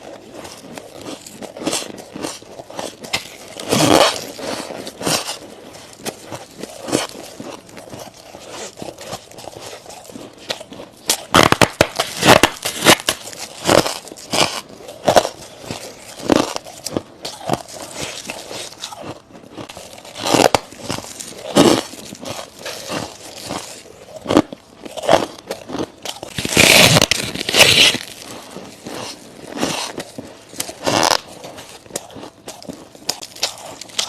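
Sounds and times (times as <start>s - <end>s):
chewing crunchy ice: 0.0s - 34.0s.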